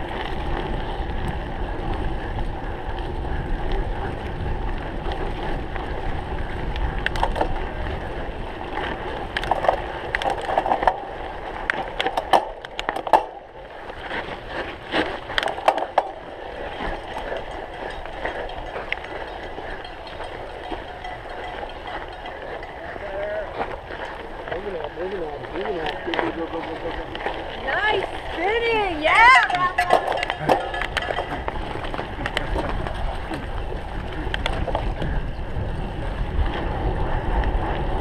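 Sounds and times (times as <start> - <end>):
wind on microphone: 0.0 - 13.4, 14.0 - 38.0
bike clicking and rattling: 0.0 - 38.0
bike tyre rumble: 0.0 - 38.0.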